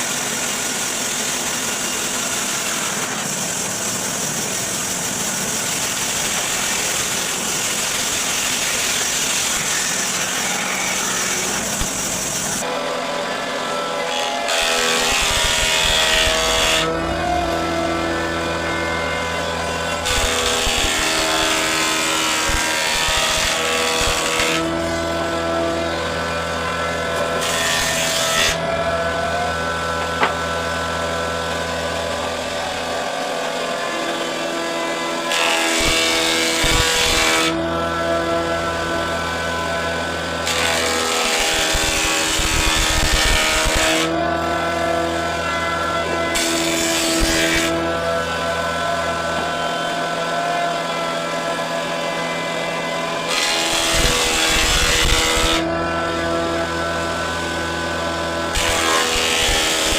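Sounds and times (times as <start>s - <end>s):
power tool cutting wood: 0.0s - 59.9s
power tool motor hum: 0.0s - 59.9s.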